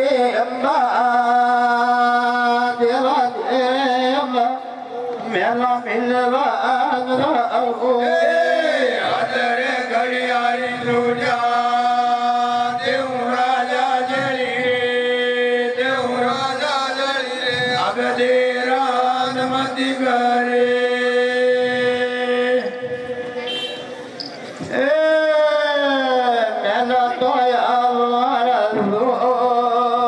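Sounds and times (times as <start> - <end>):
man chanting into a microphone: 0.0 - 23.4, 24.7 - 30.0.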